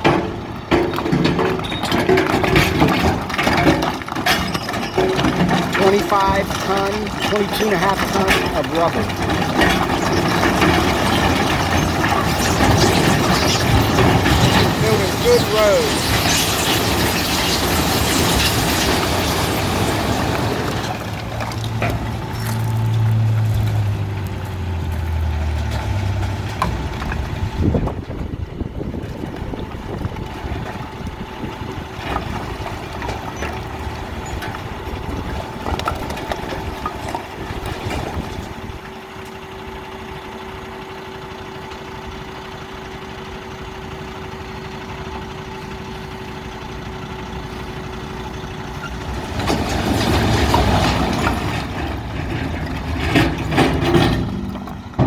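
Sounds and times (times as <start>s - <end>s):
knocks and clanks: 0.0s - 17.1s, 17.7s - 39.0s, 49.3s - 55.0s
diesel engine idling: 0.0s - 55.0s.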